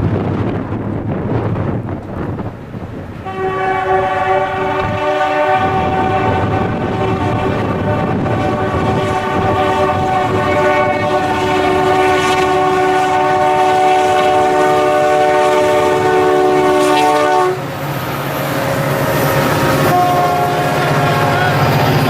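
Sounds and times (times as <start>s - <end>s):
locomotive rumble: 0.0s - 22.0s
train rolling by: 0.0s - 22.0s
locomotive horn chord: 3.2s - 17.7s, 18.7s - 22.0s.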